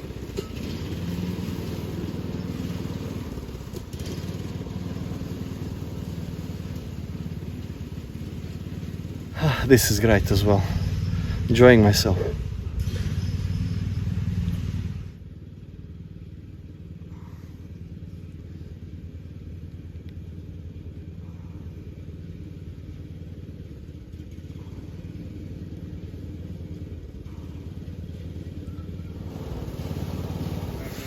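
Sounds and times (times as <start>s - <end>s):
lawn mower engine running: 0.0s - 17.0s, 18.0s - 31.0s.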